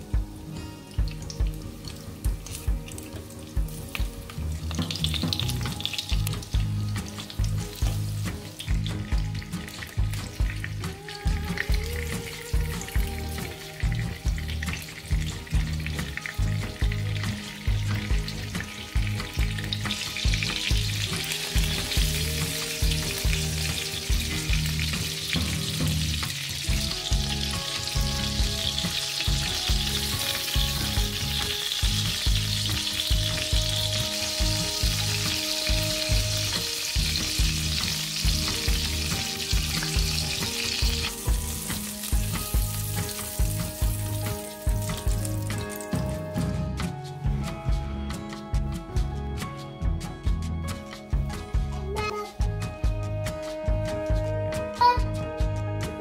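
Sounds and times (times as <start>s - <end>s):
fritters sizzling in hot oil: 0.0s - 46.7s.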